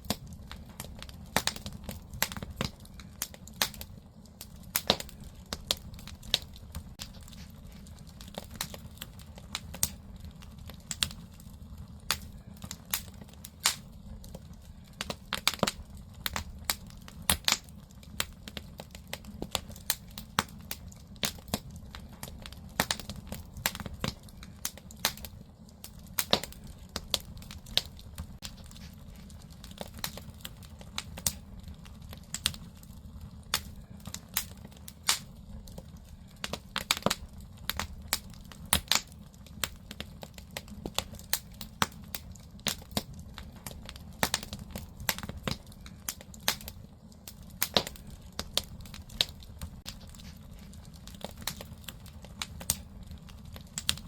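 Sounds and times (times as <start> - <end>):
fire low rumble: 0.0 - 54.0
firewood crackling and popping: 0.0 - 54.0.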